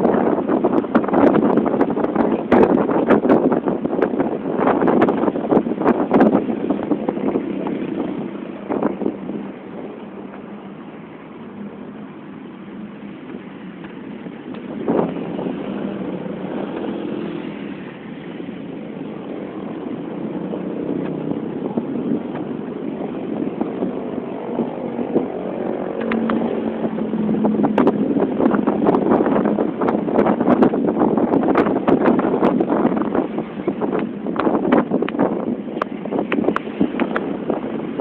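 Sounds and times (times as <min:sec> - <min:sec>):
vehicle engine and road noise: 0:00.0 - 0:38.0.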